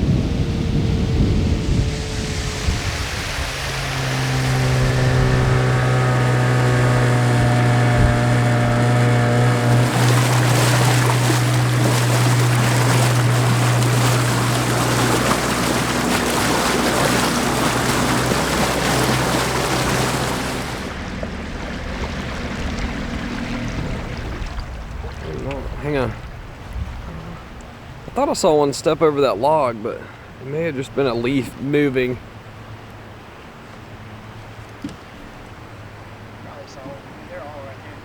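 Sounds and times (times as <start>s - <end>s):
boat motor humming: 0.0s - 38.0s
rushing wind and water: 0.0s - 38.0s.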